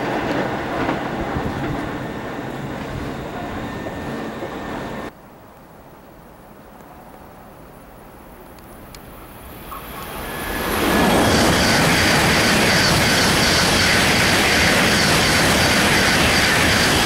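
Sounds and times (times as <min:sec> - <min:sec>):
high-speed train passing: 0:00.0 - 0:05.2, 0:08.4 - 0:17.0.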